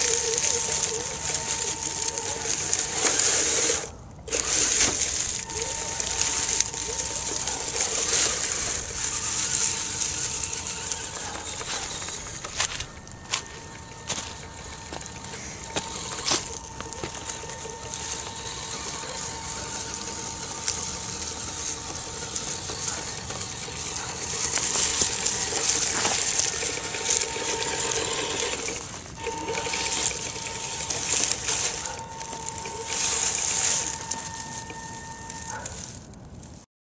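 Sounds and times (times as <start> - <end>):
electric motor and gears whining: 0.0 - 36.7
tyres crunching through dry leaves: 0.0 - 36.7.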